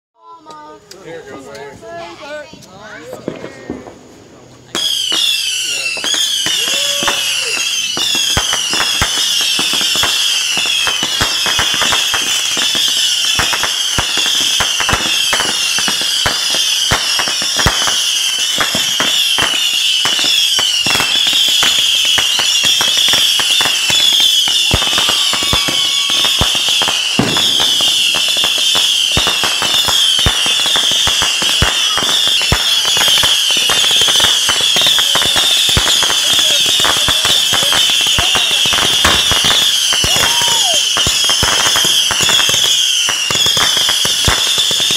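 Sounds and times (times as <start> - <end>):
firework pops and crackles: 0.3 - 44.9
whistling fireworks: 1.8 - 44.9.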